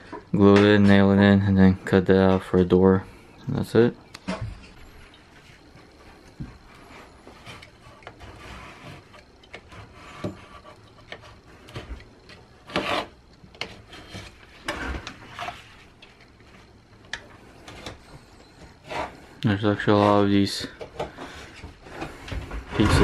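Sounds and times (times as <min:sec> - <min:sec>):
scraping against wood: 0:04.2 - 0:23.0.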